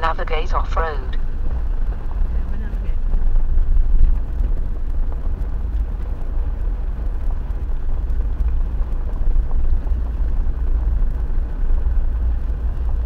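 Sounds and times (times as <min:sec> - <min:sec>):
car driving on gravel: 0:00.7 - 0:13.0.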